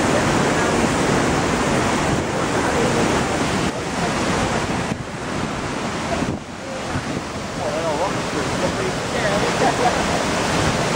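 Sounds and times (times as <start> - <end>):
water rushing over rocks: 0.0 - 10.9
wind buffeting microphone: 0.0 - 10.9.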